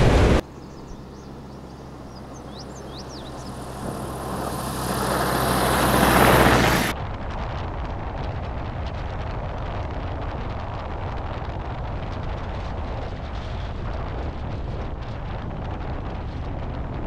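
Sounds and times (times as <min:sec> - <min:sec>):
airplane engine and propeller drone: 0:00.0 - 0:17.0
wind rushing over camera: 0:00.0 - 0:17.0.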